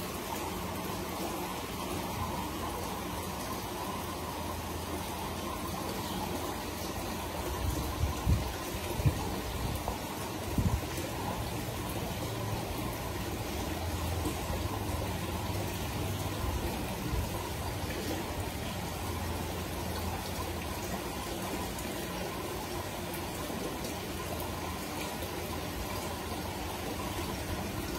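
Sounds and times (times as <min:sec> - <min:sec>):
aquarium water bubbling: 0:00.0 - 0:27.9.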